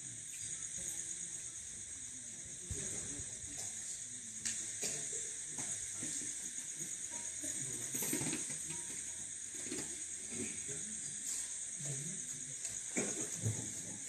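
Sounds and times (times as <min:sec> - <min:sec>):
low crowd voices: 0:00.0 - 0:14.0
steady high hiss: 0:00.0 - 0:14.0.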